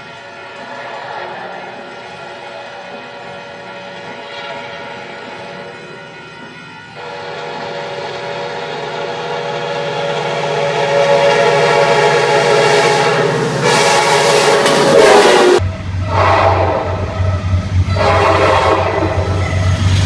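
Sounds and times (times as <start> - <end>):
train horn blast: 0.0 - 19.7
rush of passing train: 0.0 - 20.0.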